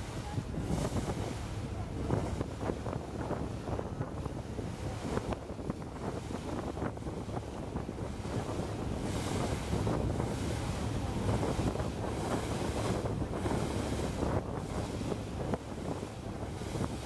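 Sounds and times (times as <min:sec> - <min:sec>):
low ship engine drone: 0:00.0 - 0:17.0
river water: 0:00.0 - 0:17.0
wind buffeting microphone: 0:00.0 - 0:17.0.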